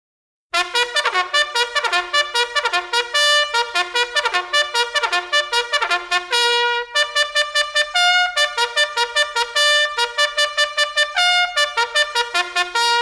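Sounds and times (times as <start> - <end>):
bugle call over loudspeaker: 0.6 - 13.0.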